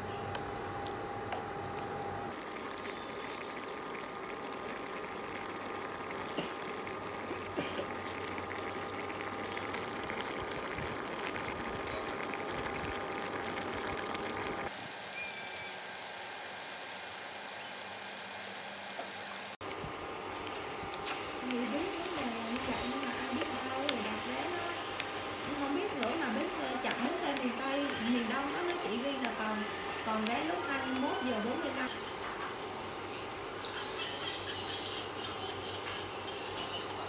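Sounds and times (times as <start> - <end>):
sugar syrup boiling in a pan: 2.3 - 14.7, 19.6 - 37.0.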